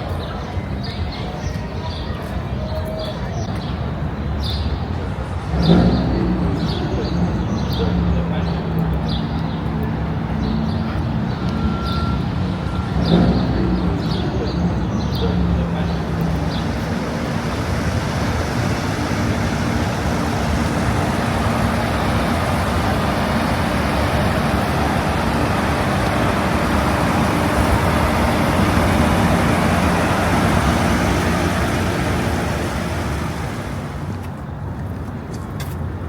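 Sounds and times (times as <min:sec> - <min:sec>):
low engine hum: 0:00.0 - 0:34.9
passing vehicles rushing: 0:00.0 - 0:35.3.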